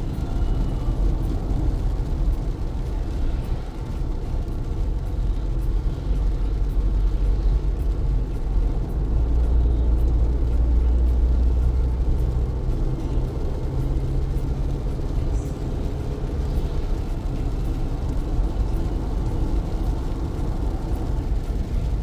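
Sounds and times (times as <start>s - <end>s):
car engine and tyres on wet road: 0.0s - 22.0s
rain hissing: 0.0s - 22.0s.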